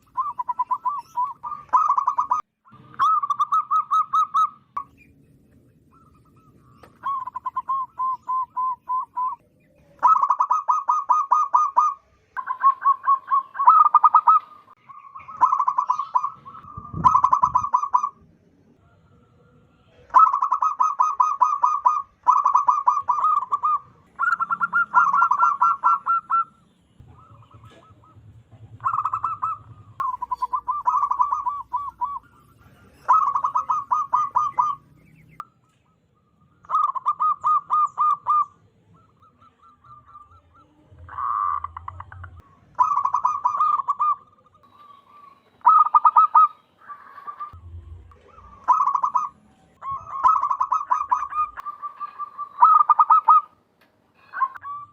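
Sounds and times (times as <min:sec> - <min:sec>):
dove cooing: 0:00.0 - 0:04.8, 0:05.8 - 0:18.2, 0:19.9 - 0:35.4, 0:36.6 - 0:53.6, 0:54.2 - 0:54.9.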